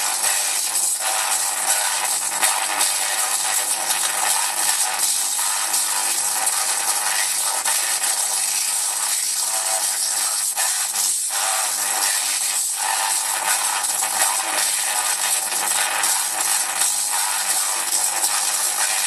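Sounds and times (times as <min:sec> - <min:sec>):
tesla coil spark buzzing: 0:00.0 - 0:19.0.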